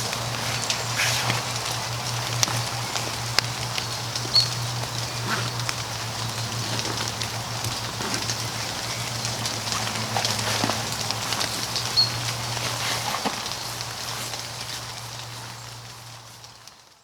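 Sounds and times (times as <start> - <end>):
campfire crackling and popping: 0.0 - 17.0
rain patter: 0.0 - 17.0.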